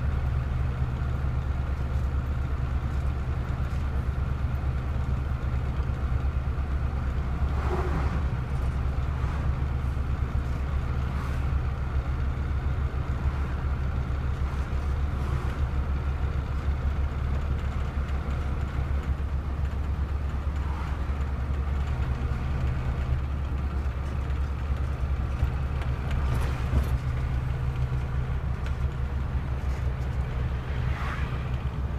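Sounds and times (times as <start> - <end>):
road vehicles rumbling: 0.0 - 31.9.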